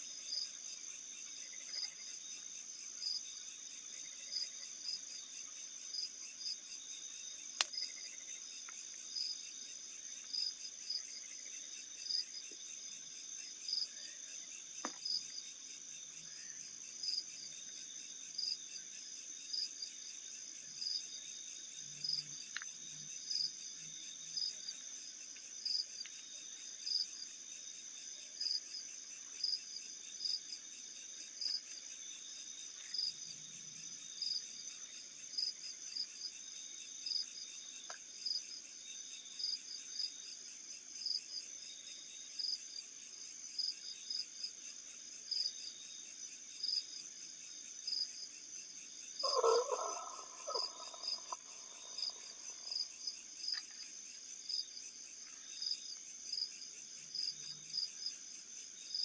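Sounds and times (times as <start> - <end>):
regular insect chirp: 0.0 - 59.0
crickets trilling: 0.3 - 59.0.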